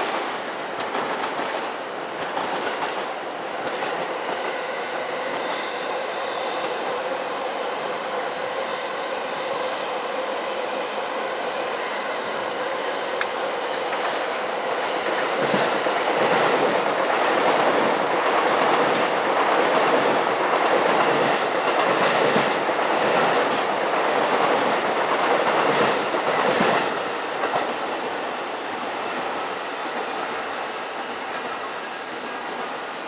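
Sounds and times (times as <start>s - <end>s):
train wheels clacking on rails: 0.0s - 10.6s, 11.2s - 33.0s.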